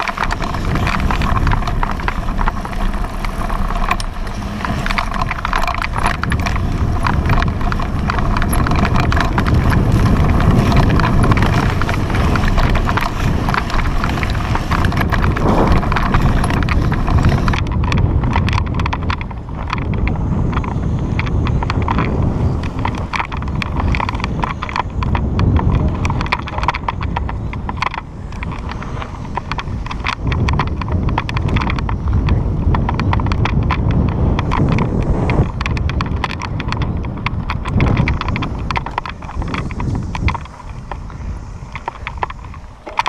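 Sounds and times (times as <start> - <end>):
bike rattling and knocking: 0.0 - 43.0
wind and tyre rumble: 0.0 - 43.0.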